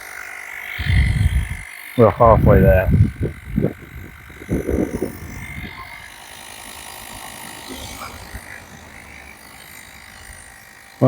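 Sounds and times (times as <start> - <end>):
electric tyre inflator buzzing: 0.0 - 11.0.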